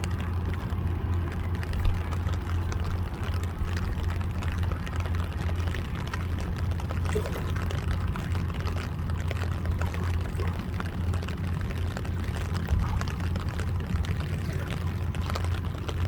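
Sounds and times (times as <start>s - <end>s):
river water splashing and gurgling: 0.0s - 16.0s
steady low rumble: 0.0s - 16.0s.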